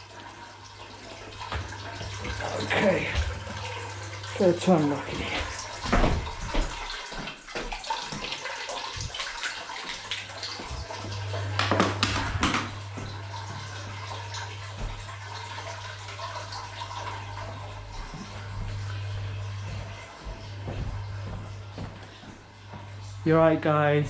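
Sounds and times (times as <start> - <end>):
water rushing from drain: 0.0 - 21.4.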